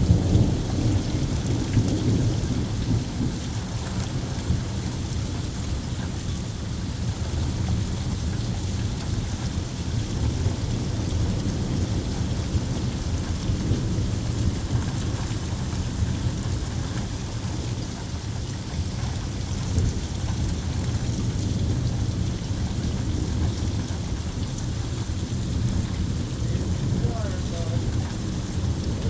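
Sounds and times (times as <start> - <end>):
low thunder rumble: 0.0 - 29.0
steady rain: 0.0 - 29.0.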